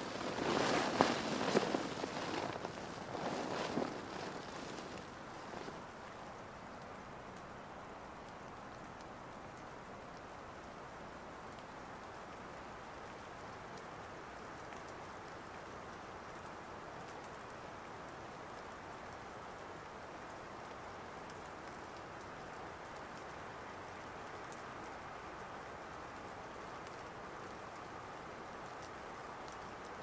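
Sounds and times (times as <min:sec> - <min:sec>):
faint raindrop ticks: 0:00.0 - 0:30.0
light rain hissing: 0:00.0 - 0:30.0.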